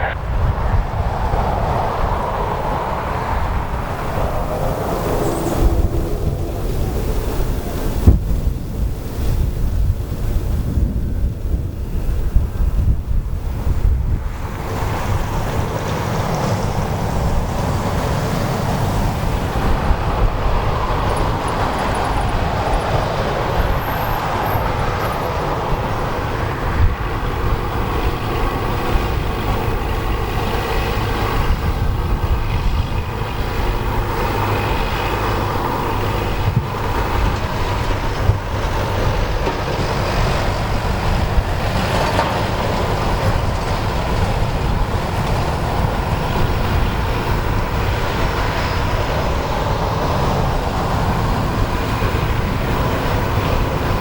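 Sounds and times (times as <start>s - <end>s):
faint turbine whine: 0.0s - 54.0s
turboprop engine rumble: 0.0s - 54.0s.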